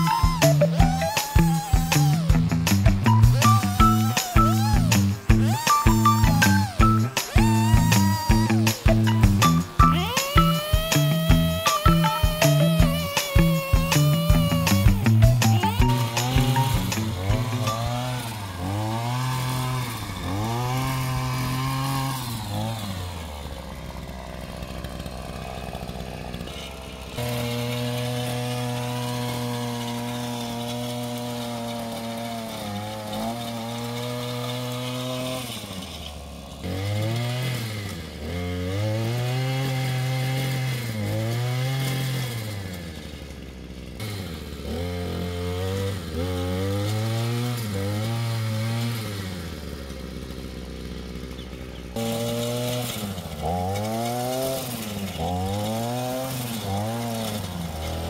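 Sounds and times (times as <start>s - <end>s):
small gas engine revving and idling: 0.0s - 58.0s.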